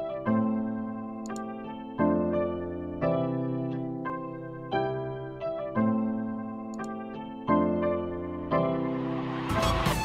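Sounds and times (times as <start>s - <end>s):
electric piano chords: 0.0s - 10.0s.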